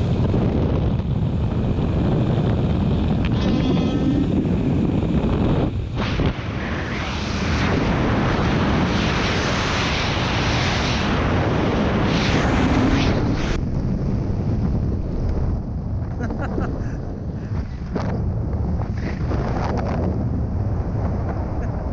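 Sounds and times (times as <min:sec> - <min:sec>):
wind rushing over microphone: 0:00.0 - 0:21.9.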